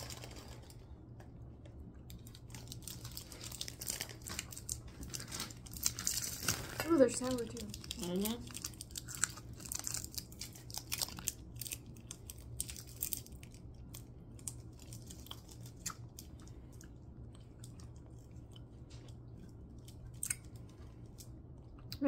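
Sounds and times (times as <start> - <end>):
low steady hum: 0.0 - 22.0
crunchy candy chewing: 1.9 - 22.0.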